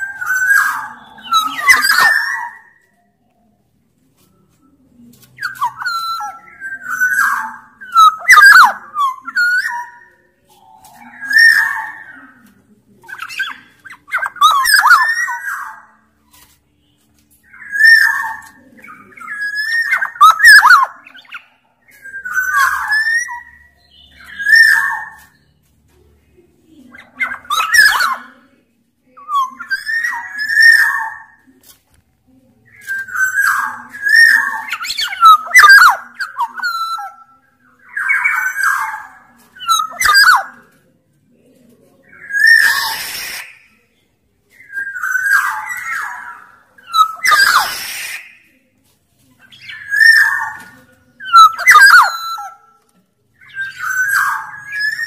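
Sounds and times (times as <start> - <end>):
bird singing fluty whistled phrases: 0.0 - 3.3, 5.3 - 12.4, 13.1 - 25.5, 29.2 - 31.4, 32.7 - 40.6, 42.1 - 48.6, 49.5 - 52.8, 53.4 - 55.0.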